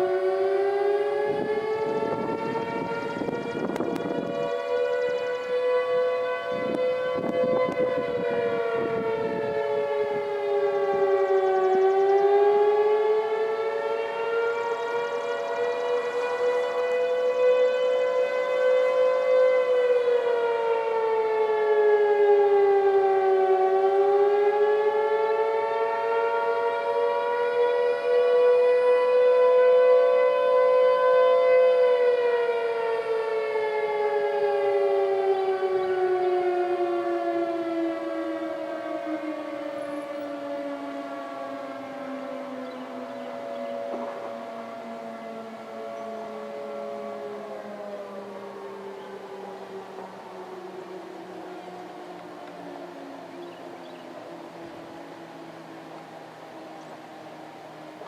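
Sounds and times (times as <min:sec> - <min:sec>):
warning sirens wailing: 0:00.0 - 0:58.0.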